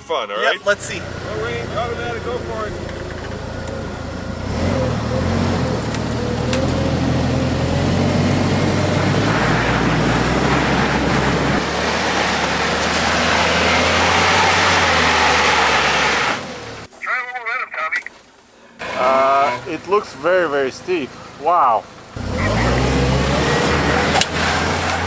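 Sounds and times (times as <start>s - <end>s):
engine running hard: 0.7s - 16.9s, 19.6s - 25.0s.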